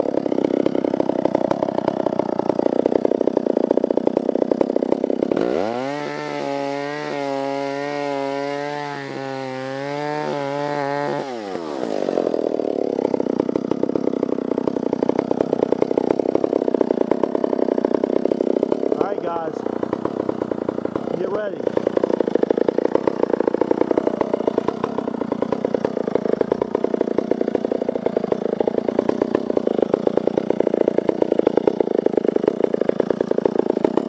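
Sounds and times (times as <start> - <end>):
chainsaw idling and revving: 0.0 - 34.0.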